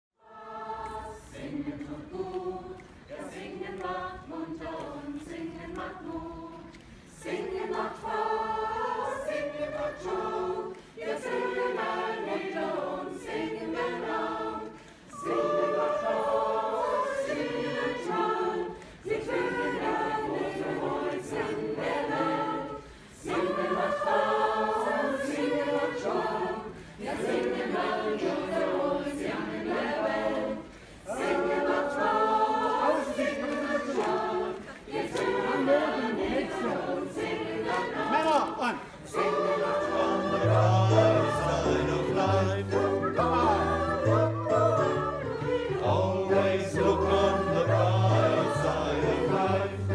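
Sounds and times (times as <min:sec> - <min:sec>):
choir singing: 0:00.2 - 0:49.9.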